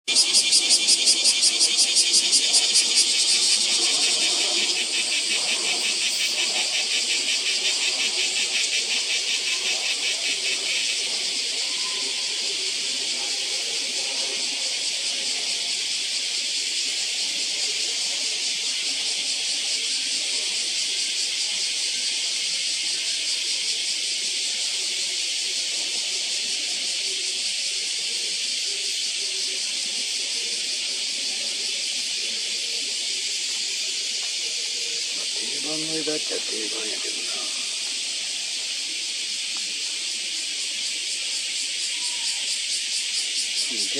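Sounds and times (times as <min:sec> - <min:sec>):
cicadas chorus: 0:00.0 - 0:43.9.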